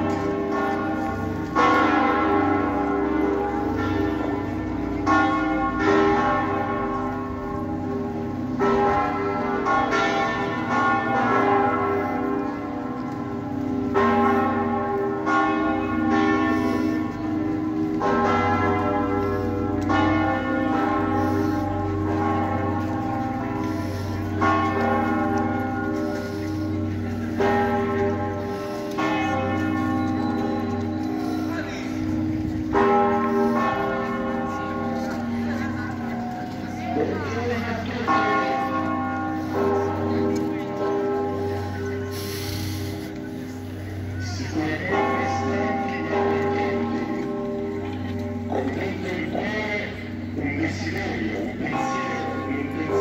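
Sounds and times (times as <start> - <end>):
church bells pealing: 0.0 - 53.0.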